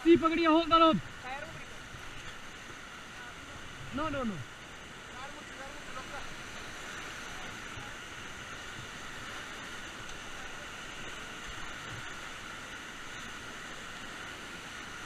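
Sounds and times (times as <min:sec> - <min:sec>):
fast river water rushing: 0:00.0 - 0:15.0.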